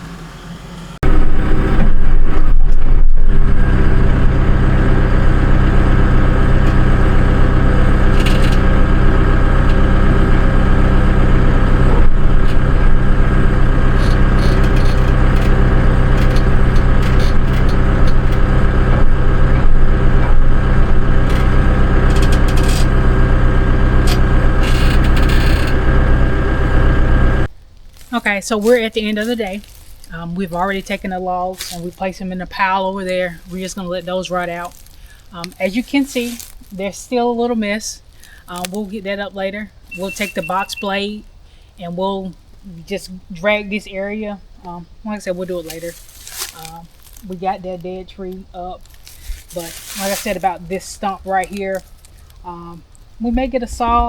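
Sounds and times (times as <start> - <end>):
motor engine running: 0.0 - 41.2, 45.2 - 54.0.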